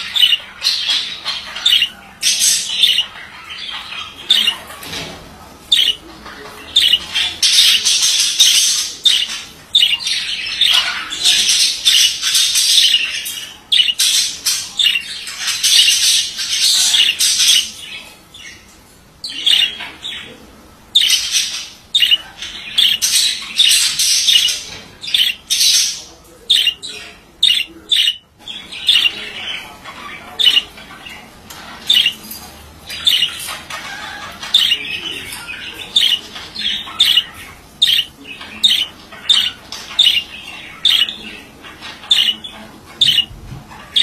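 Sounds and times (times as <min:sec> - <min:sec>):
budgerigar warbling and chattering: 0:00.0 - 0:44.0.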